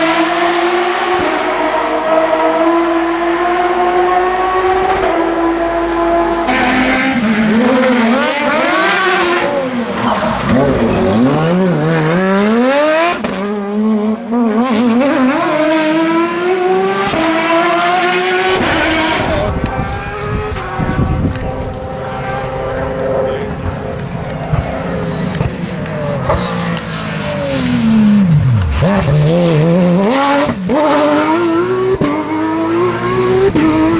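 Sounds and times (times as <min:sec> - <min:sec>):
rally car engine revving: 0:00.0 - 0:33.9.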